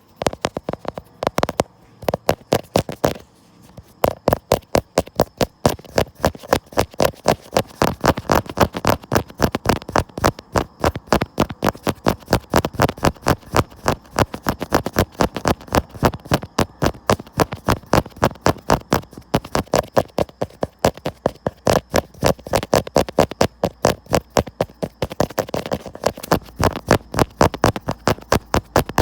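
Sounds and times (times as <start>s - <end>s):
rapid tapping on camera: 0.0s - 29.0s.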